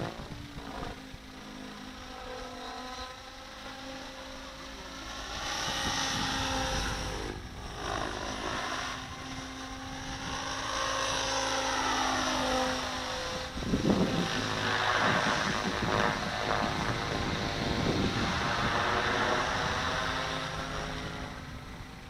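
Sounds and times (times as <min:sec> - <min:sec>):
model helicopter whine: 0:00.0 - 0:22.0.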